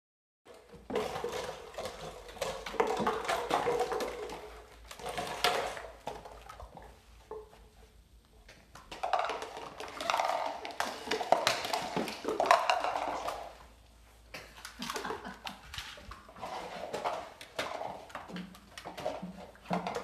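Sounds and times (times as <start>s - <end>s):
plastic bottle clattering: 0.5s - 7.5s, 8.5s - 13.7s, 14.4s - 20.0s.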